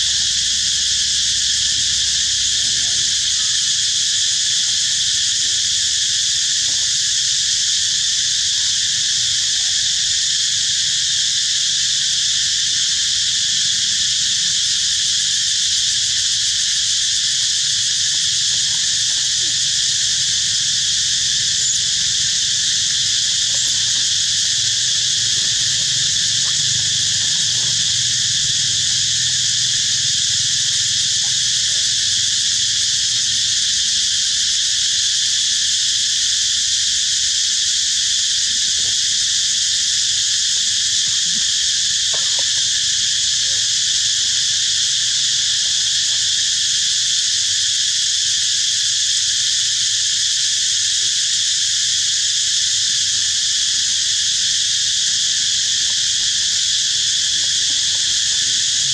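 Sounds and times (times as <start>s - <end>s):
insect chorus drone: 0.0s - 58.9s.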